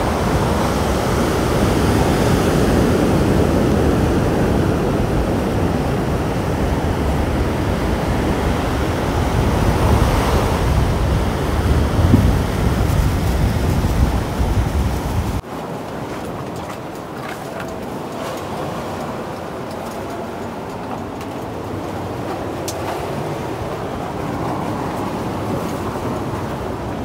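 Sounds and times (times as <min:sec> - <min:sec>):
sea waves washing onto beach: 0:00.0 - 0:27.0
wind on microphone: 0:00.0 - 0:27.0.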